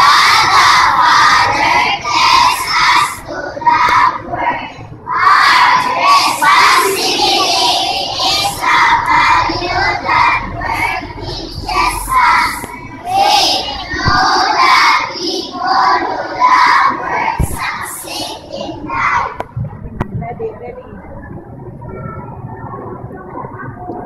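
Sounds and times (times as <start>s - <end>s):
children singing in unison: 0.0s - 19.4s.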